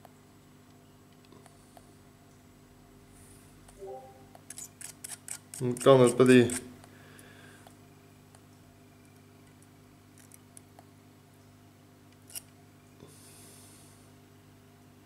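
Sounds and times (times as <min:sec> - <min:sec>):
low steady hum: 0:00.0 - 0:04.8, 0:05.6 - 0:15.0.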